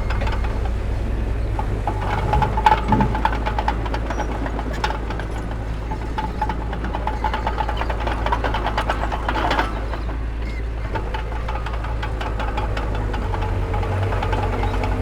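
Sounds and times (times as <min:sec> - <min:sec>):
heavy diesel machinery drone: 0:00.0 - 0:15.0
machinery clanks and rattles: 0:00.0 - 0:15.0.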